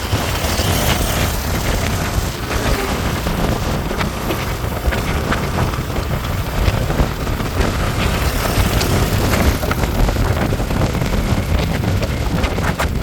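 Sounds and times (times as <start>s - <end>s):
scattered crackles: 0.0s - 13.0s
vehicle rumble: 0.0s - 13.0s
wind buffeting microphone: 0.0s - 13.0s.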